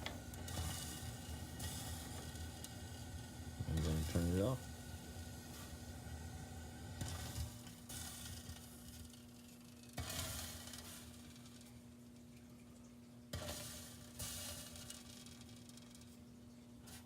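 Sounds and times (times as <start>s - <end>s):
water sizzling in burner: 0.0s - 17.0s.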